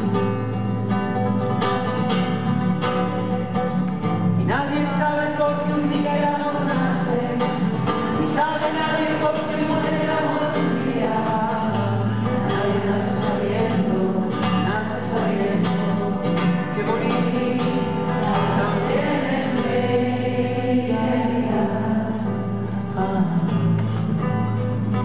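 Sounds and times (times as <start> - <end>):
acoustic guitar: 0.0 - 25.0.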